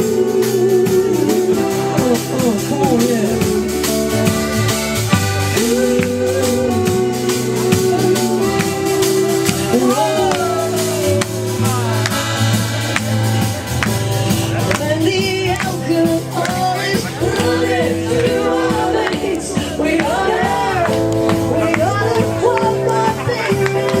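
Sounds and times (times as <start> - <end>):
pop-rock band playing: 0.0 - 24.0
sliding melody line: 0.0 - 24.0.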